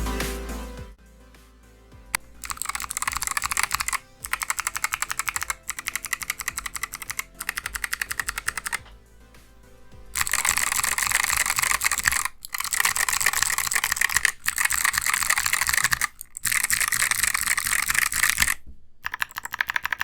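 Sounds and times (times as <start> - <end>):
background music: 0.0 - 18.5
clicky mechanical keyboard typing: 2.2 - 9.0, 10.2 - 20.0.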